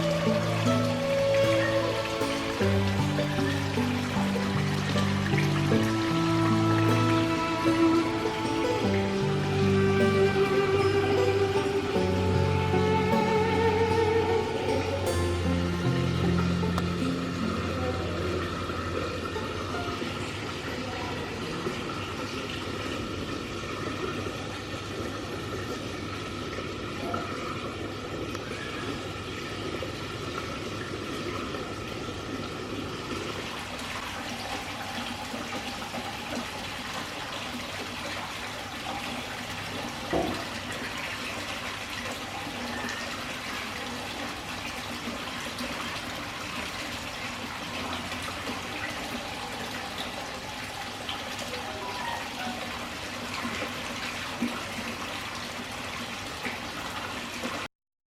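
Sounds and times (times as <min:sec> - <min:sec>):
water pouring and splashing: 0:00.0 - 0:57.7.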